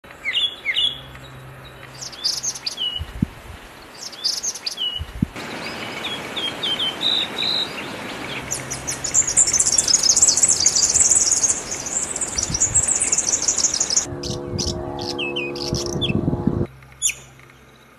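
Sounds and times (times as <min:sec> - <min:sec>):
songbirds calling and singing: 0:00.0 - 0:16.2, 0:16.8 - 0:17.9.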